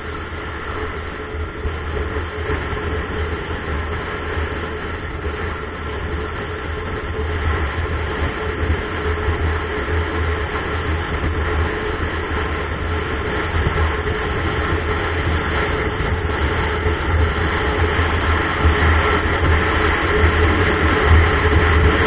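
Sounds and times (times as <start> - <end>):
wind: 0.0 - 22.0.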